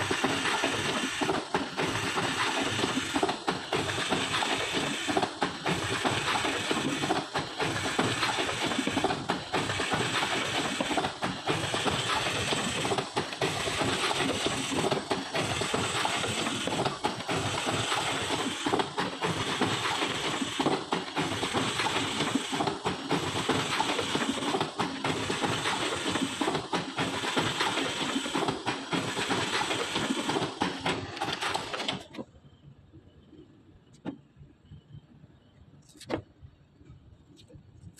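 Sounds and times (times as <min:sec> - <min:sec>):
shrink-wrapping machine clatter: 0:00.0 - 0:32.2.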